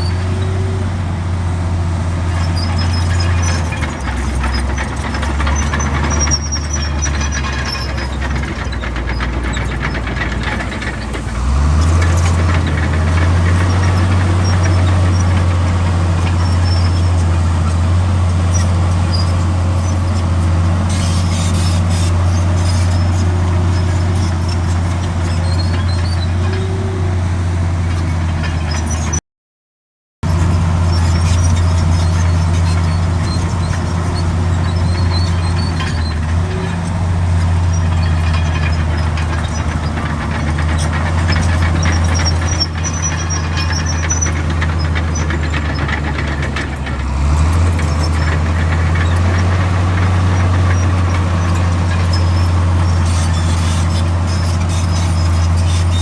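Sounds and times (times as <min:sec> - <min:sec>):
diesel machinery engine hum: 0:00.0 - 0:29.2, 0:30.2 - 0:56.0
high squeaks: 0:02.3 - 0:27.2, 0:30.8 - 0:56.0.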